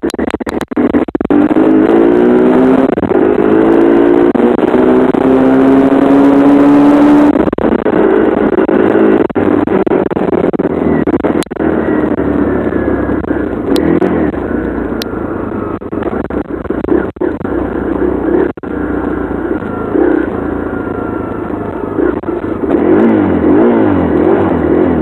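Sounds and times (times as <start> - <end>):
dirt bike engine revving: 0.8 - 11.0, 11.6 - 25.0.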